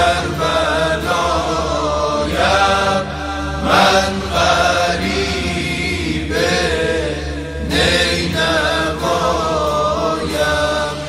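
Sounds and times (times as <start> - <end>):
male group vocal drone: 0.0 - 11.0.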